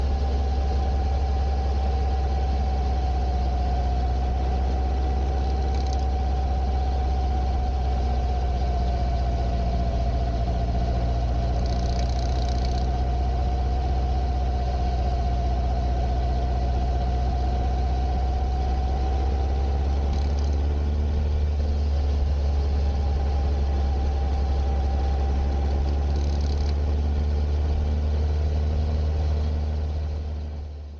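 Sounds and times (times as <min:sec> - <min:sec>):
motorcycle engine idling: 0:00.0 - 0:30.9
thin whine: 0:00.0 - 0:30.9.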